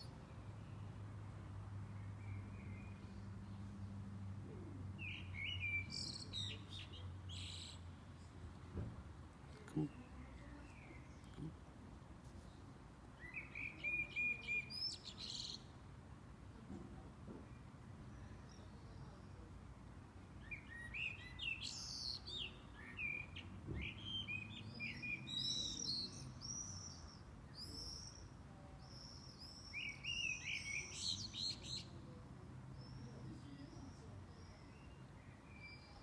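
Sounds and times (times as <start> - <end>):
small birds chirping: 0.0 - 8.7, 9.4 - 15.8, 20.4 - 36.0.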